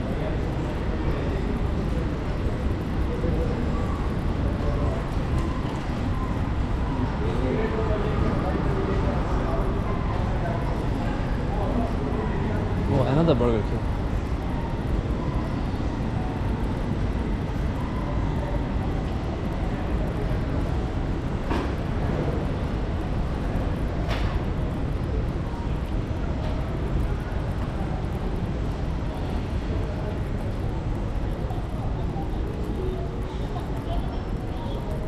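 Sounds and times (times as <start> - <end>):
low rumble of terminal: 0.0 - 35.0.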